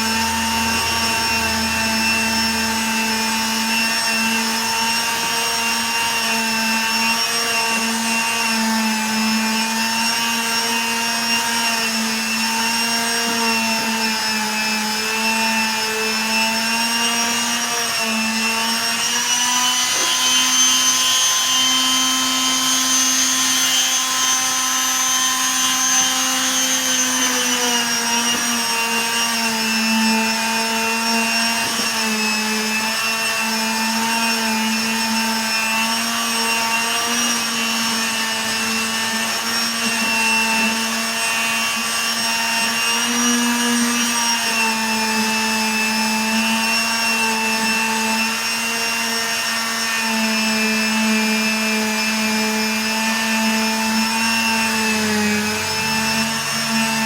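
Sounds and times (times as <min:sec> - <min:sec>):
power tool motor humming: 0:00.0 - 0:57.0.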